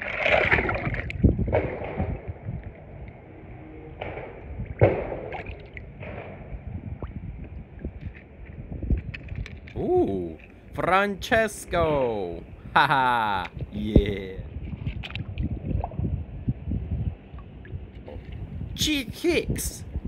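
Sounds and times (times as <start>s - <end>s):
water splashing and sloshing: 0.0s - 11.8s, 14.4s - 18.8s.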